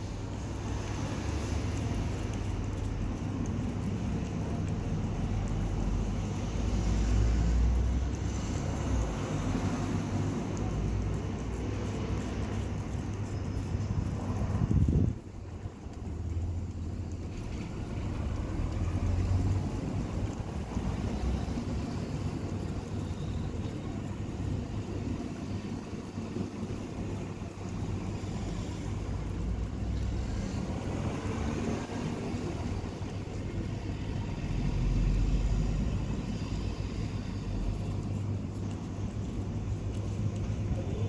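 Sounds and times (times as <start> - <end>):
cat licking and chewing: 0.0 - 41.0.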